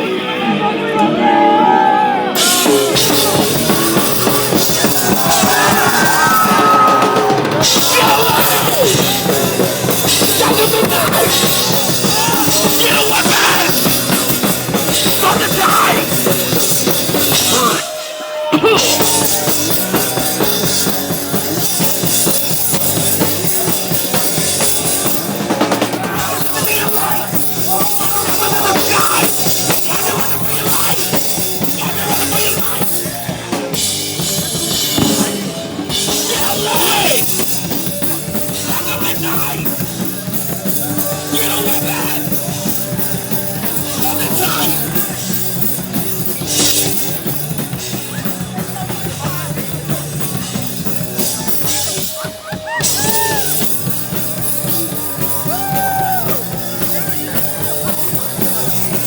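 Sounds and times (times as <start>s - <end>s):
live punk band playing: 0.0s - 59.0s.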